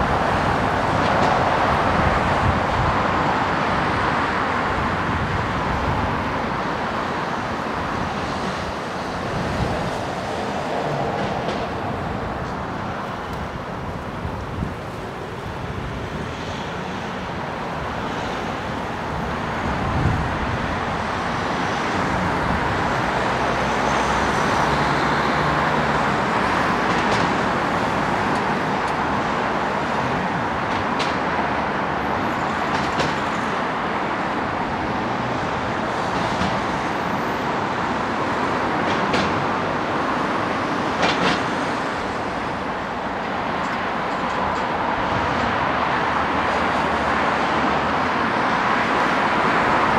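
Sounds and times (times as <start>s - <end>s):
road traffic noise: 0.0s - 49.9s.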